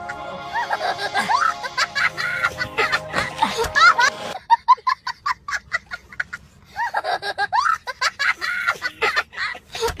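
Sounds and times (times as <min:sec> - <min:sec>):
person laughing: 0:00.0 - 0:10.0.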